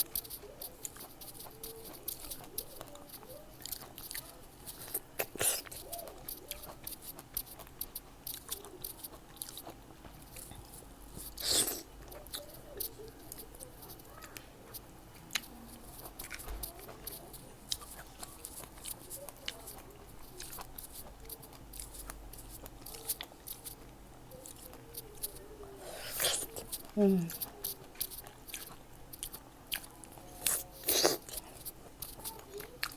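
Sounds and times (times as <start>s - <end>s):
chewing fresh fruit: 0.0s - 32.9s.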